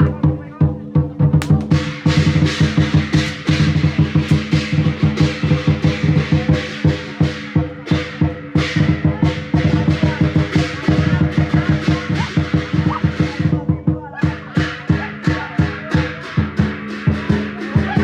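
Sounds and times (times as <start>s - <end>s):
music with fast drumbeat: 0.0s - 18.0s.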